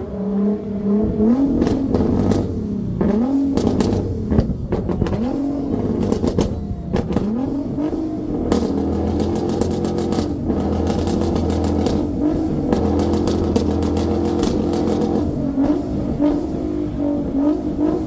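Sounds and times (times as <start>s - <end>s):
car engine revving: 0.0s - 18.0s
exhaust pops and crackles: 1.1s - 16.6s.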